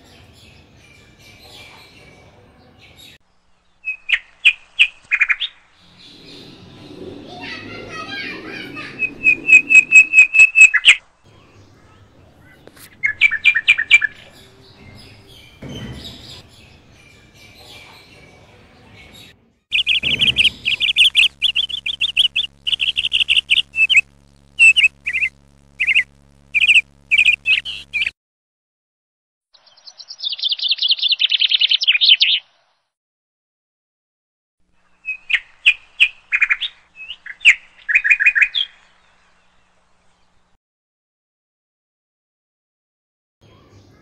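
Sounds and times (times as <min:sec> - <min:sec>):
canary singing trills: 0:00.0 - 0:28.1, 0:29.6 - 0:32.5, 0:34.8 - 0:40.4.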